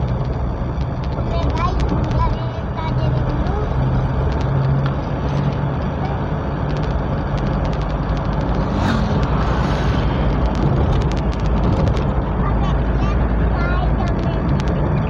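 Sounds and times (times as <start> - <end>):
vehicle engine drone: 0.0 - 15.0
road and wind noise hiss: 0.1 - 15.0.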